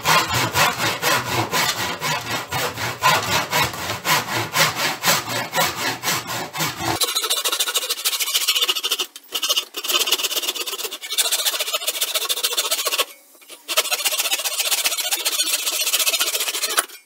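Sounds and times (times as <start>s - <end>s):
handsaw cutting wood: 0.0s - 17.0s.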